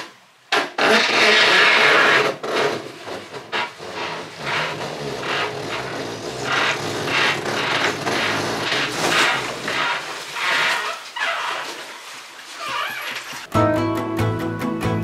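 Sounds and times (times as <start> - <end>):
rope rasping through clutch: 0.8 - 13.5.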